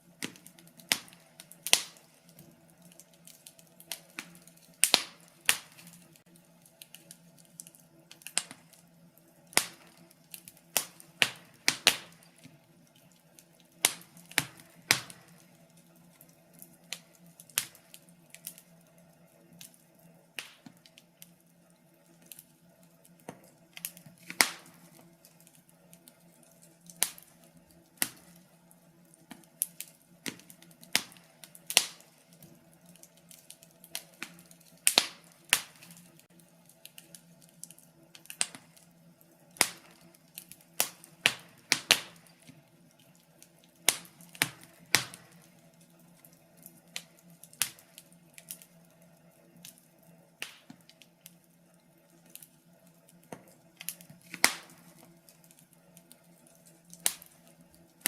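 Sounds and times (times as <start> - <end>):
faint steady low hum: 0.0 - 58.0
wood fire crackling: 0.0 - 58.0.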